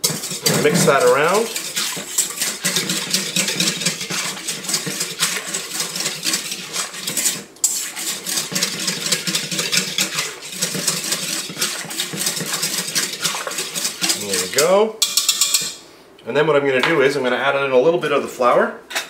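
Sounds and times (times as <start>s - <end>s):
whisk scraping metal bowl: 0.0s - 15.8s.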